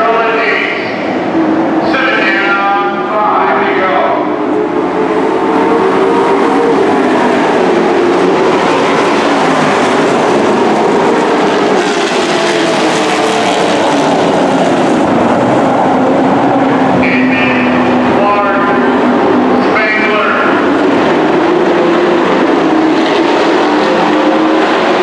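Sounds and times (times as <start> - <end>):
race truck engines running hard: 0.0 - 25.0.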